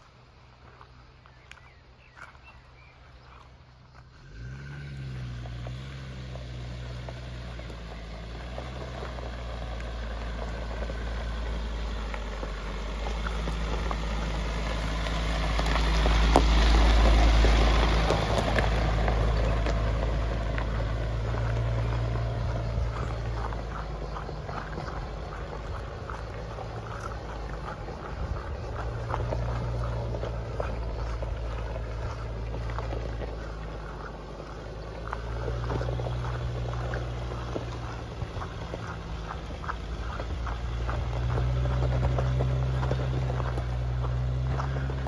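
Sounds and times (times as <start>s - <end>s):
car engine running at low speed: 0.0s - 45.0s
tyres crunching on gravel: 0.0s - 45.0s.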